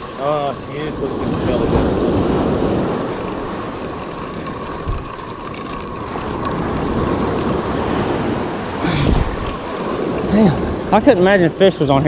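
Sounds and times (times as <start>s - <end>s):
fishing reel whirring: 0.0s - 12.0s
wind on microphone: 0.0s - 12.0s.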